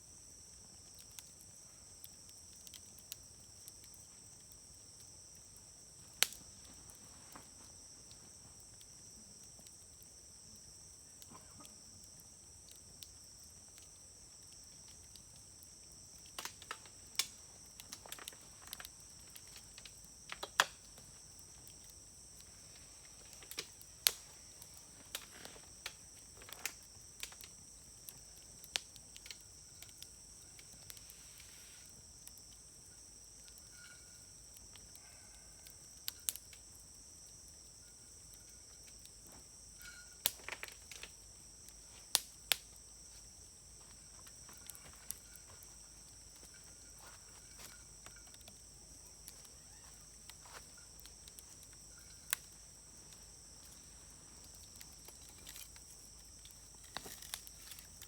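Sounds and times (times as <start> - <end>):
campfire crackling and popping: 0.0 - 58.0
insect trill: 0.0 - 58.0.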